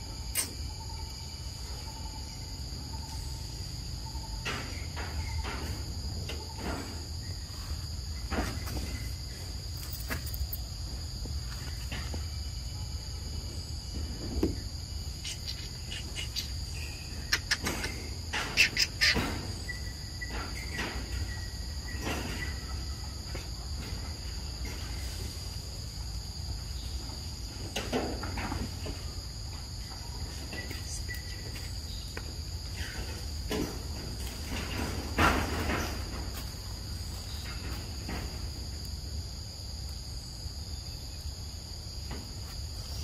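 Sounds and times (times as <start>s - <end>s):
insects droning: 0.0s - 43.0s
rustles: 4.3s - 40.1s.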